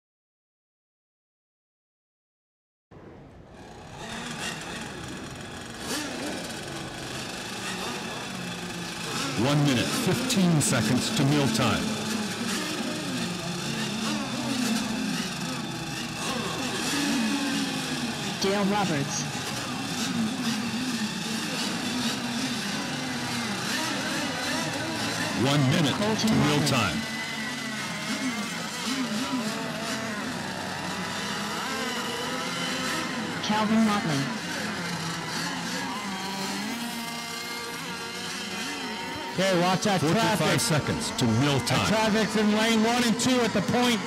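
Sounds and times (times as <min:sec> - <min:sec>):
model boat engines buzzing: 0:03.5 - 0:44.0.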